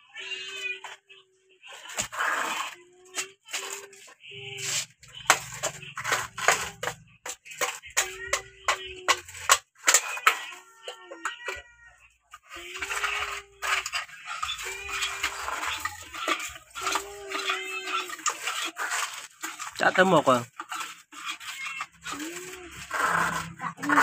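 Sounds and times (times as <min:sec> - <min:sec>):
plastic toy scraping sand: 0:01.7 - 0:11.0, 0:12.4 - 0:24.0.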